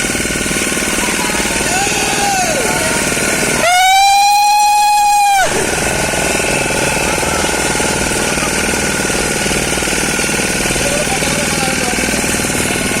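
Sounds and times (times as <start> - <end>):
motorboat engine chugging: 0.0 - 13.0.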